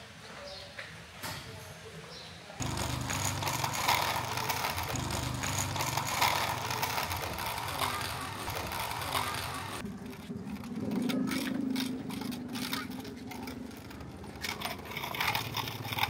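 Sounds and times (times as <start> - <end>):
wooden cart rattling over concrete: 2.6 - 16.0.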